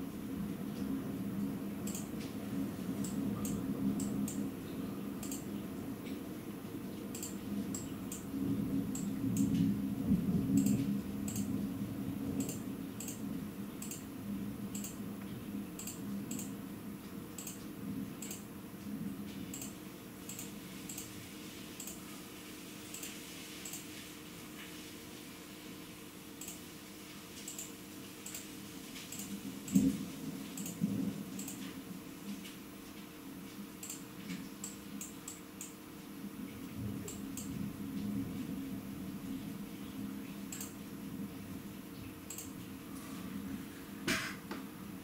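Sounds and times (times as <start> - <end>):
low rumbling rush of rain: 0.0 - 34.5, 36.0 - 45.0.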